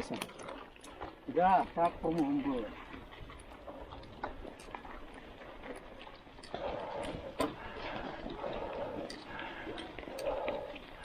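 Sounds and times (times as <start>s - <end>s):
bike tyres clicking over ground: 0.0s - 11.0s.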